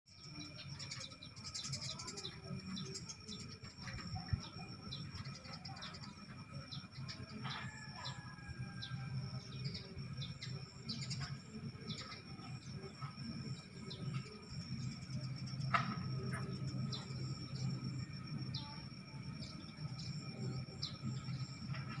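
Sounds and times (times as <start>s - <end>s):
sparrows chirping: 0.1s - 22.0s
steady high-pitched whine: 0.1s - 22.0s.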